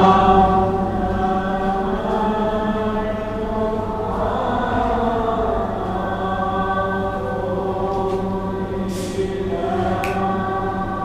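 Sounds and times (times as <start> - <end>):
eerie choir chanting: 0.0 - 11.0.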